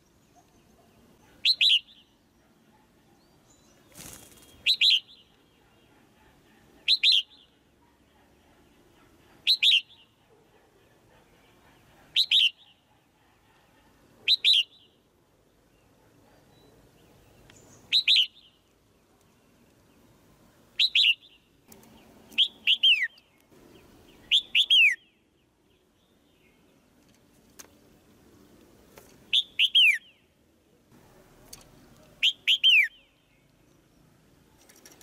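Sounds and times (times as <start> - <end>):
bird chirping: 0.0 - 27.2, 29.2 - 30.4, 31.5 - 35.0.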